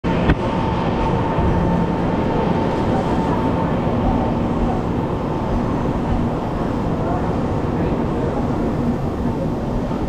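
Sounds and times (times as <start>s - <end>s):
electric train running: 0.1s - 10.0s.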